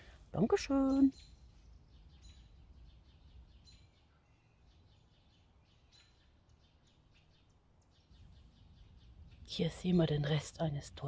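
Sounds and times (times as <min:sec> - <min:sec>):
faint high bird chirps: 0:00.4 - 0:10.3.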